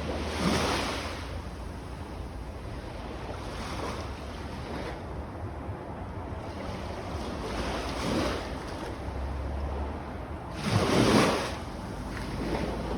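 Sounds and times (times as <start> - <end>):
waves lapping on sandy beach: 0.0 - 12.9.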